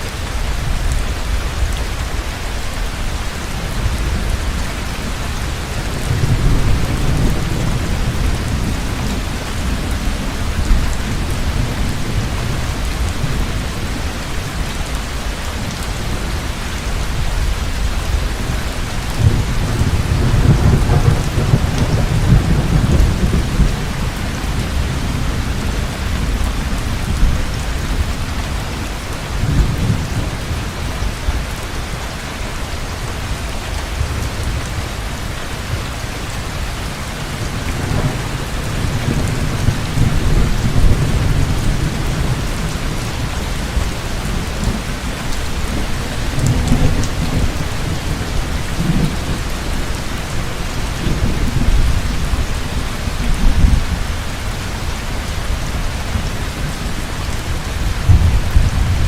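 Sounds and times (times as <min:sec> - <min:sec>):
heavy rain falling: 0:00.0 - 0:59.0
rolling thunder: 0:03.6 - 0:15.1, 0:16.9 - 0:31.6, 0:37.4 - 0:59.0.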